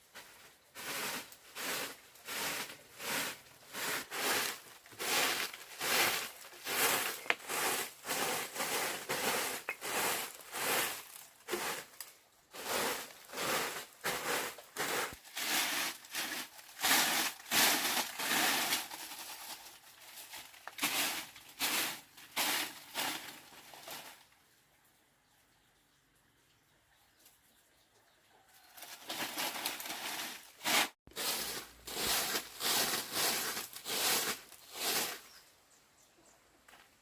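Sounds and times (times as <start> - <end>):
rhythmic crunching and crinkling: 0.1 - 24.4, 28.8 - 35.2.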